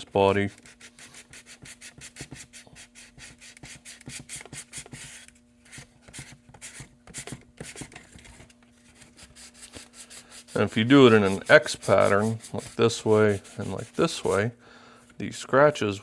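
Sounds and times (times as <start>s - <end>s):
sandpaper rubbing on plastic: 0.0s - 14.5s
faint steady hum: 0.0s - 16.0s.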